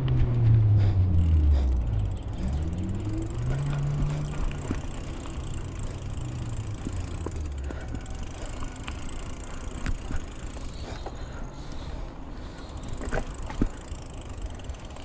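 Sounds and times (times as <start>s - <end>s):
bike clicks and rattles: 0.0s - 15.0s
mountain bike tyres rumbling: 0.0s - 15.0s.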